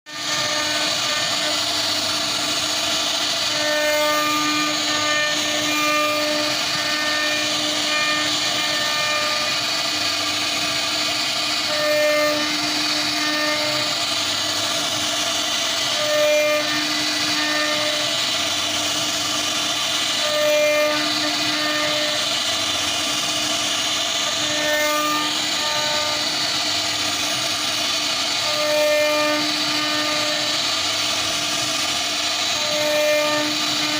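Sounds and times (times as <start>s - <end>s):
router spindle cutting wood: 0.1s - 33.9s.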